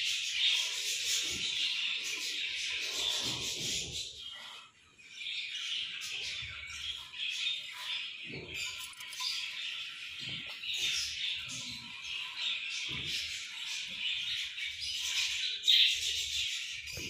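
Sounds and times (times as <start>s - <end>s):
budgerigars chirping and chattering: 0.0s - 17.0s.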